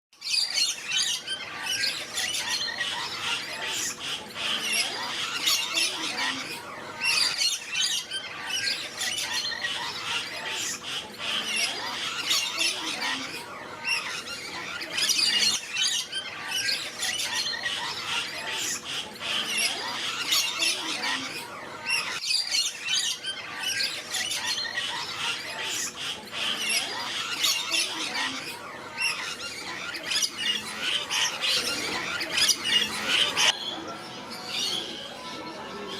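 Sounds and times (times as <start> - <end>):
parrots squawking and chattering: 0.2 - 35.9.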